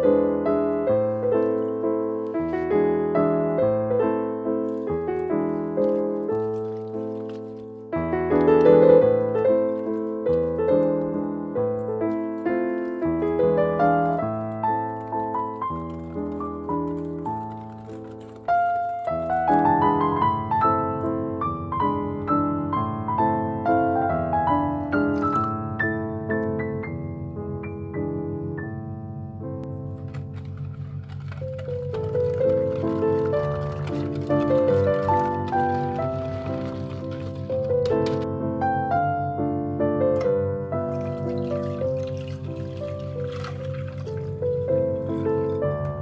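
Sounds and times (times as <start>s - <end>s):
gentle piano music: 0.0s - 46.0s.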